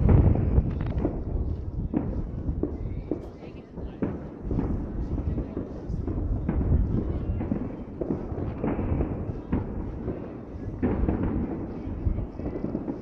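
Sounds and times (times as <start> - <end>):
distant fireworks rumble: 0.0 - 13.0
sharp firework reports: 0.0 - 13.0.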